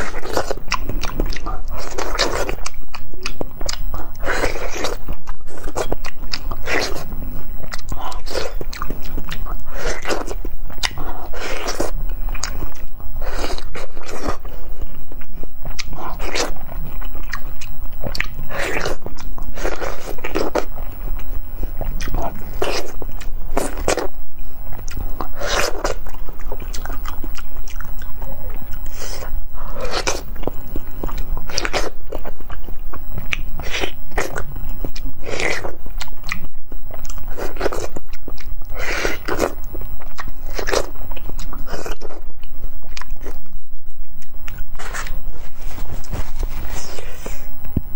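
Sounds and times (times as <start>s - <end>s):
person biting and chewing fruit: 0.0s - 47.9s.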